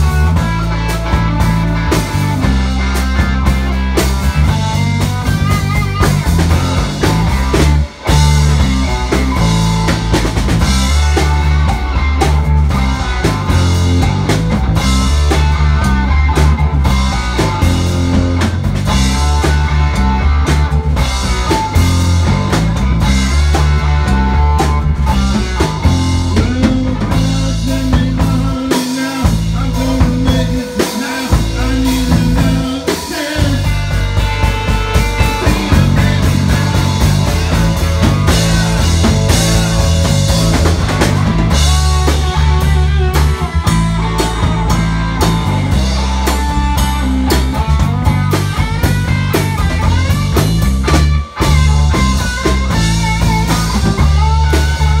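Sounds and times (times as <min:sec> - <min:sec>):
bass guitar: 0:00.0 - 0:55.0
drums: 0:00.0 - 0:55.0
electric guitar: 0:00.0 - 0:55.0.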